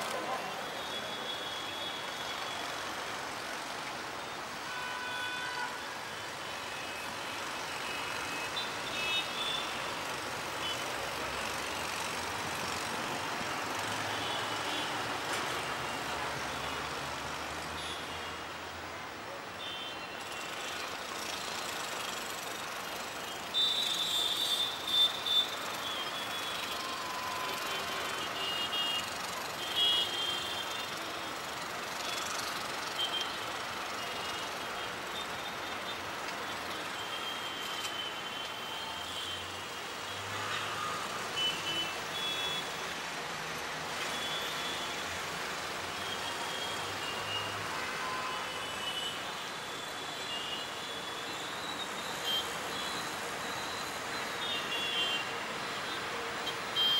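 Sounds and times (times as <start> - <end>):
distant city traffic hum: 0.0 - 56.9.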